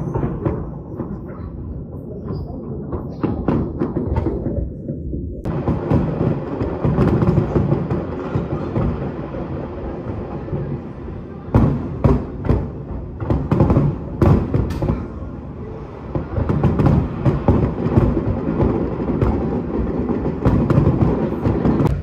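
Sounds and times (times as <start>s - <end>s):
fireworks bursting with booms: 0.0s - 22.0s.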